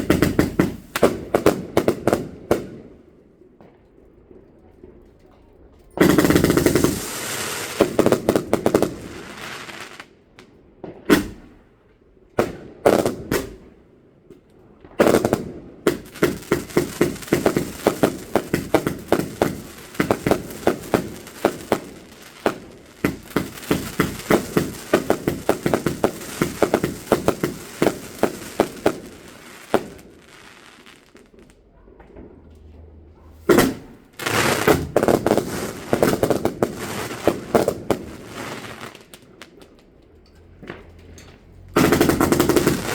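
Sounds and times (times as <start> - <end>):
fireworks banging: 0.0 - 3.8, 5.9 - 10.2, 10.8 - 11.8, 12.4 - 42.9.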